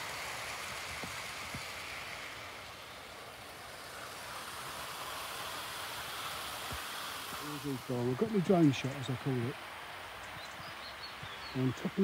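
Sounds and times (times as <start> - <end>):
model train whirring on rails: 0.0 - 10.3.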